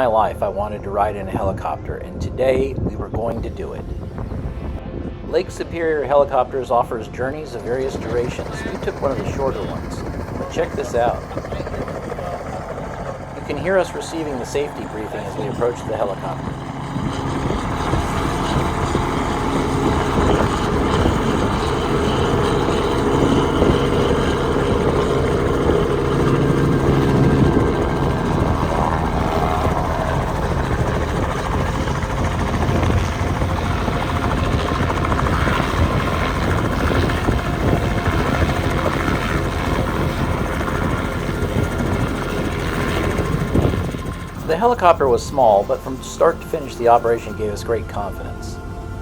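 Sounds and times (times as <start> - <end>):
helicopter engine and rotor: 0.0 - 49.0.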